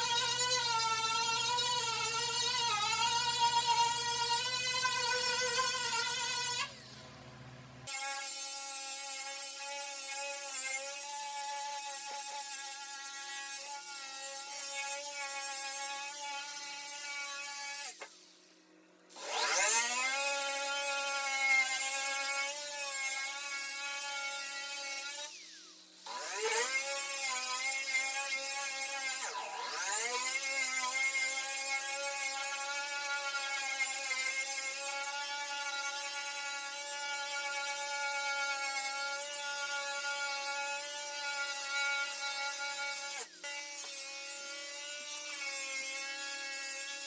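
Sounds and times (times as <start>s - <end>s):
electric grinder grinding metal: 0.0s - 7.1s, 7.9s - 47.0s.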